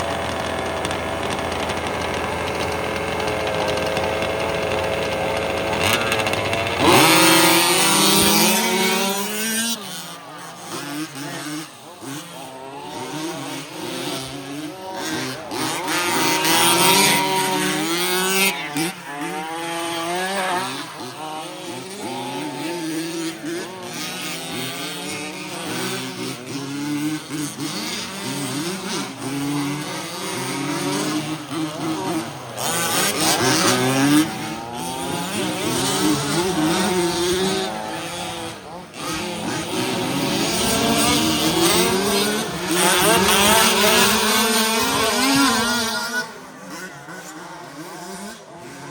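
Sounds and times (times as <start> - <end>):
remote-control trucks whining: 0.0 - 48.9.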